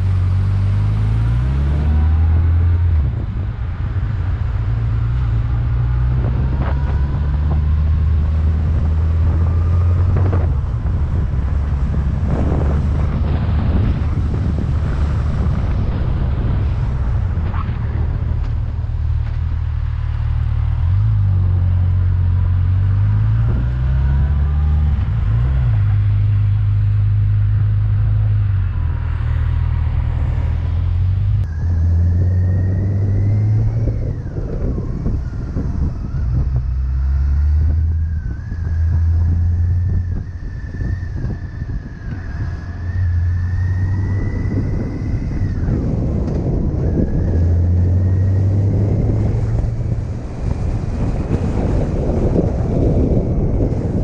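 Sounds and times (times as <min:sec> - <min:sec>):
wind rushing: 0:00.0 - 0:21.3, 0:28.0 - 0:54.0
motorcycle engine drone: 0:00.0 - 0:54.0.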